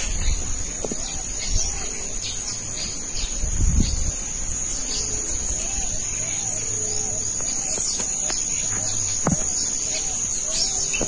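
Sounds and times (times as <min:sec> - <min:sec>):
birds calling: 0:00.0 - 0:11.0
insects droning: 0:00.0 - 0:11.0.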